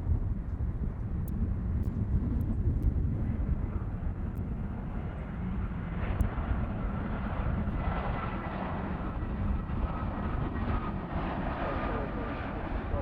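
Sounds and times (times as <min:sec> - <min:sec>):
jet engines rumbling: 0:00.1 - 0:13.0.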